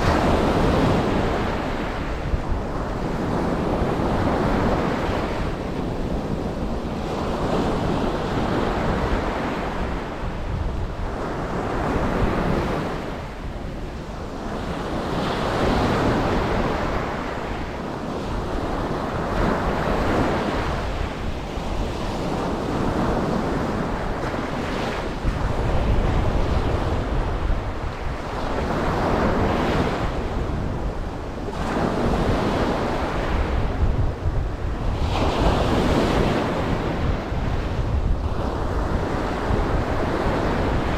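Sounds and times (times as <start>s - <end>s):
ocean waves breaking on beach: 0.0s - 40.9s
wind buffeting microphone: 0.0s - 40.9s.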